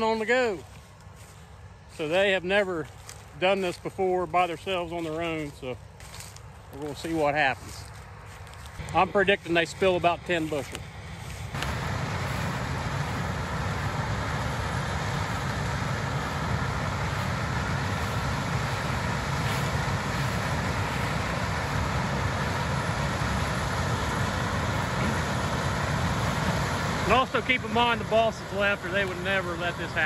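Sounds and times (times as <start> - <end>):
low machinery drone: 0.0 - 30.0.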